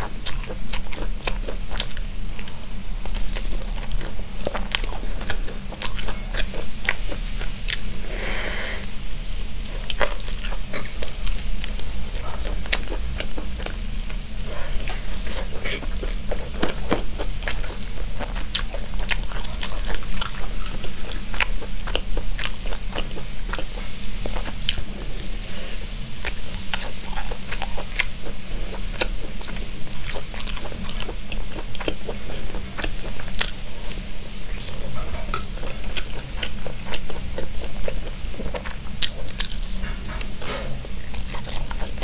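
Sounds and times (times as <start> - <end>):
chewing crunchy fried food: 0.0 - 42.0
steady low hum: 0.0 - 42.0.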